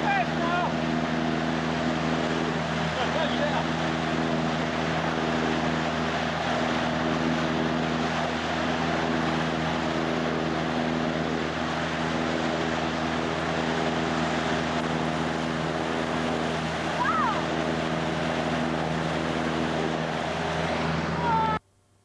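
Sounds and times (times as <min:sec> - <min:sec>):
water rushing: 0:00.0 - 0:21.6
motorboat engine running: 0:00.0 - 0:22.0
wind: 0:00.0 - 0:22.0.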